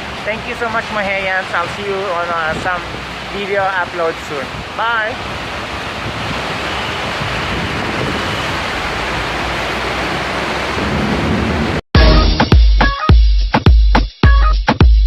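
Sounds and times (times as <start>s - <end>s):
heavy rain pouring: 0.0s - 12.2s.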